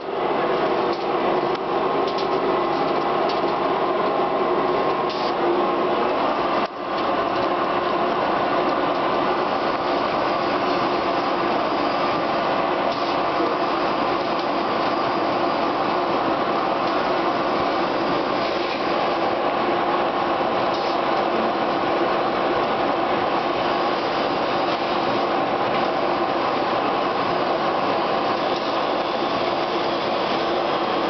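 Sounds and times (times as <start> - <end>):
vacuum conveyor rushing air: 0.0 - 31.0.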